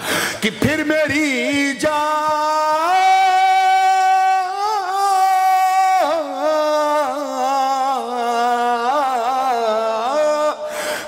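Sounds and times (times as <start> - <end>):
man singing melisma: 0.3 - 10.9.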